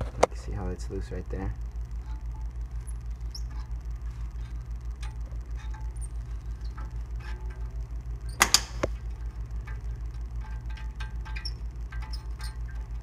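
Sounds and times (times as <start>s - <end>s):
low pulsing hum: 0.0s - 13.0s.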